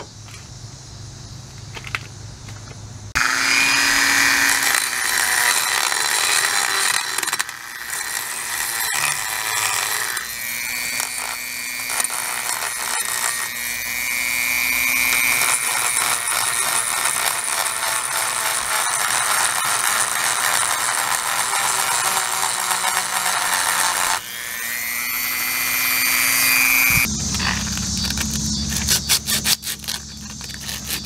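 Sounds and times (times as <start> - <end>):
rotary tool grinding metal: 3.2 - 31.0.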